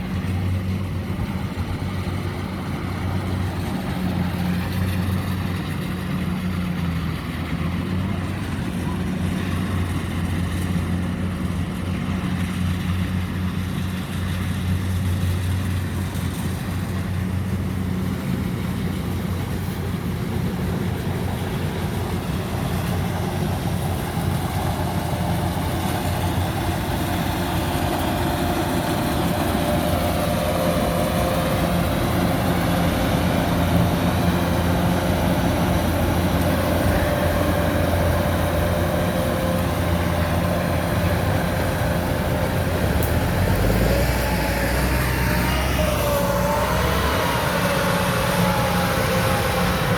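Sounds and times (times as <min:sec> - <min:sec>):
combine harvester diesel engine hum: 0:00.0 - 0:49.9.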